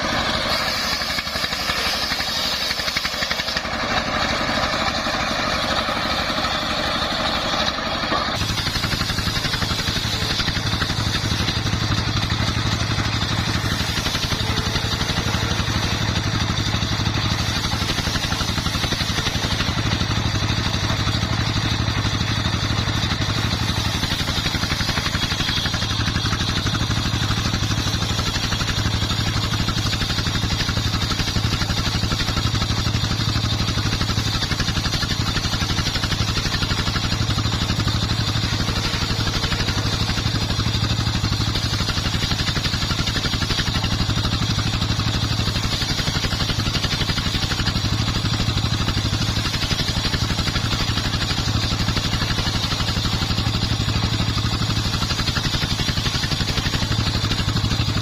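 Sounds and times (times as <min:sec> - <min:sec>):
diesel engine chugging: 0:00.0 - 0:58.0
spinning saw hiss: 0:00.0 - 0:58.0.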